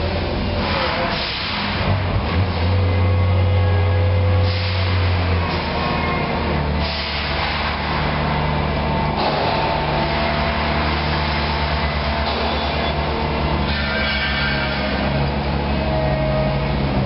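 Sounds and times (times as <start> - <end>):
forklift running: 0.0 - 17.0.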